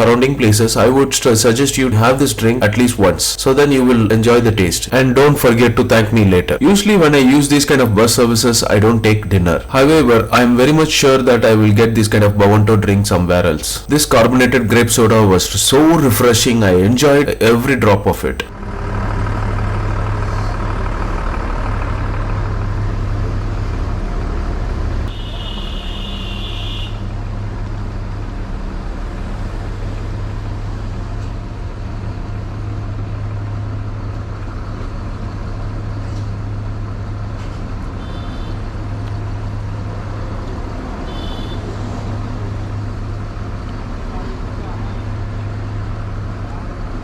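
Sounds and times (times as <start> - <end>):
bus engine running: 0.0 - 47.0.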